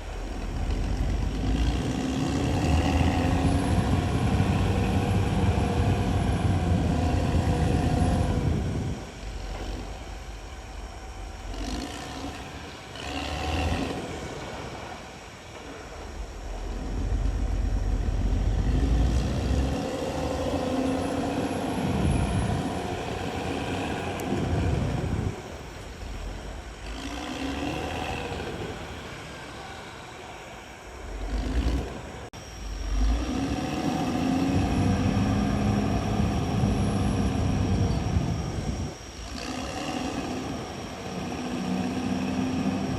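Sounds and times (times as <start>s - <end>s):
bulldozer diesel engine under load: 0.0s - 42.9s.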